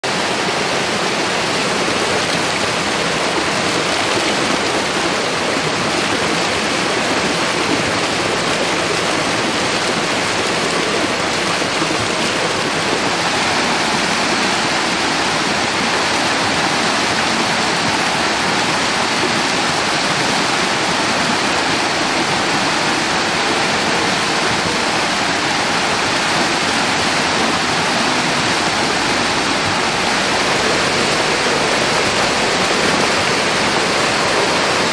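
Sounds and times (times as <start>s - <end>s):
rushing water: 0.0s - 34.9s.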